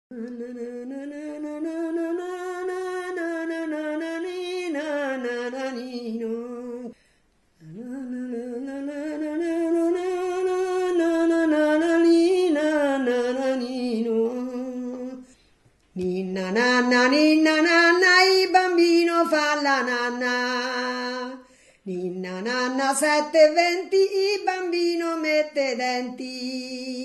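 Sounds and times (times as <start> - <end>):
woman singing a lullaby: 0.1 - 7.0, 7.6 - 27.0.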